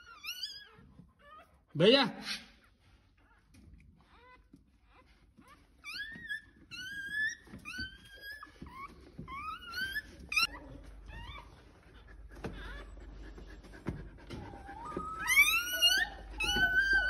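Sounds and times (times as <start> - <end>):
puppy squealing: 0.0 - 2.6, 3.2 - 13.1, 14.2 - 17.0.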